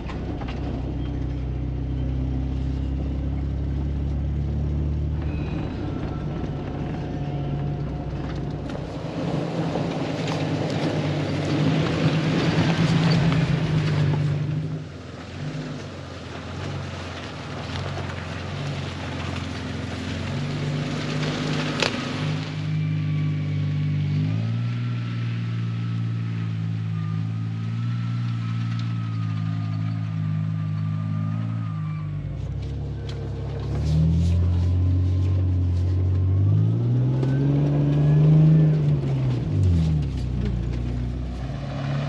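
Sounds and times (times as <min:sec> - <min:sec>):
tyres on dirt: 0:00.0 - 0:42.0
vehicle engine droning: 0:00.0 - 0:42.0.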